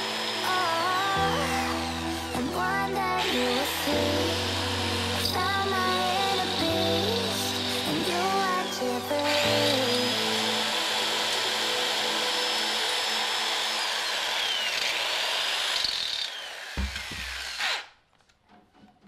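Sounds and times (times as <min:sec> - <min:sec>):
rotary tool grinding metal: 0:00.0 - 0:18.0.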